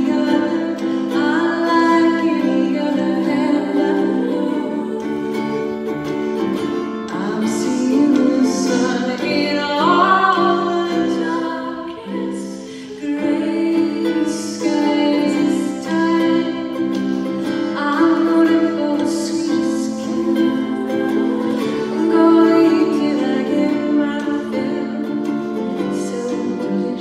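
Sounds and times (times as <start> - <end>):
ukulele strumming: 0.0 - 27.0
woman singing: 0.0 - 27.0.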